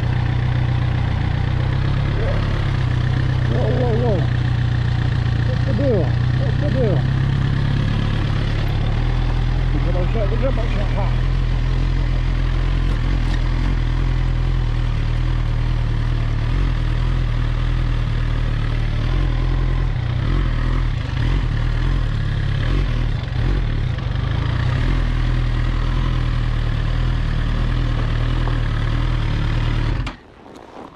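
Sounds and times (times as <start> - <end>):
motorcycle engine running at low revs: 0.0 - 30.9.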